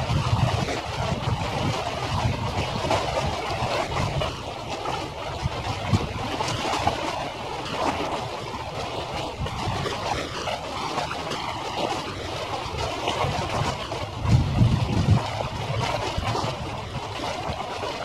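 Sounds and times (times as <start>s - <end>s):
water wash: 0.0s - 18.0s
wind on microphone: 0.0s - 18.0s.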